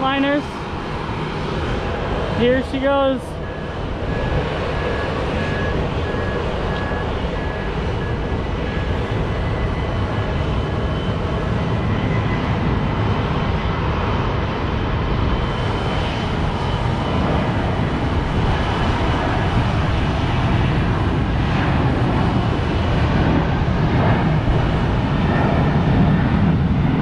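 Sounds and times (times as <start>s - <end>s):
jet airliner taking off: 0.0s - 27.0s.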